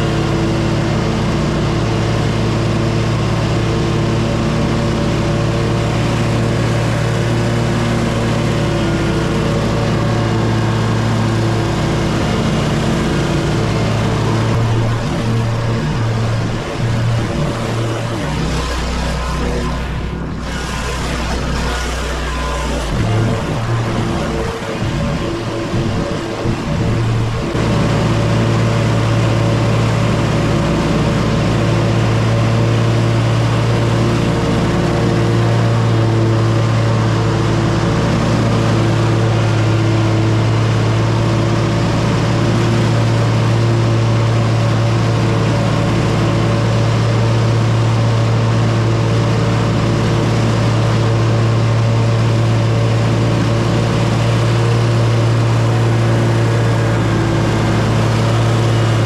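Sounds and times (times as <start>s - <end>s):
riding lawn mower engine: 0.0s - 59.0s.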